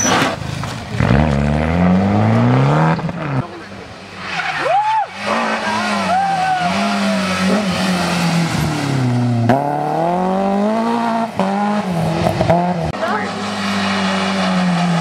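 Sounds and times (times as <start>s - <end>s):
car engine revving: 0.3s - 15.0s.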